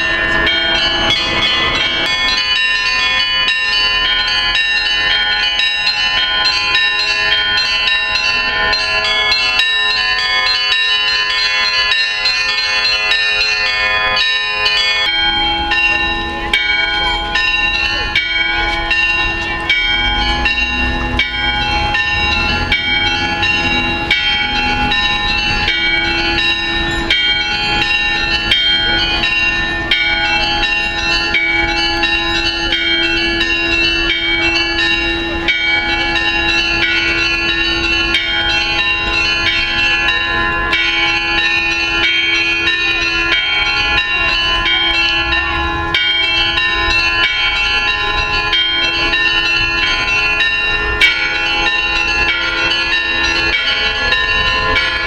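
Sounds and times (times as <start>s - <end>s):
low bell tone: 0.0s - 55.0s
small high bells ringing: 0.0s - 55.0s.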